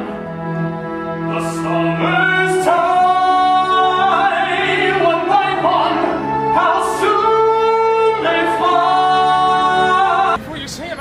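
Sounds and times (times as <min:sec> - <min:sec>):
orchestral accompaniment: 0:00.0 - 0:10.4
man singing ballad: 0:01.3 - 0:10.4.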